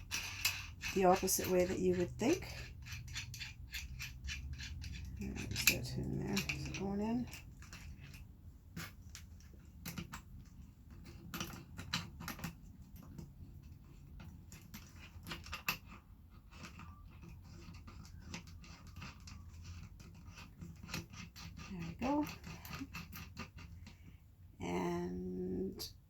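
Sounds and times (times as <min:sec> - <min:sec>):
faint metal clicks and scraping: 0:00.0 - 0:24.5.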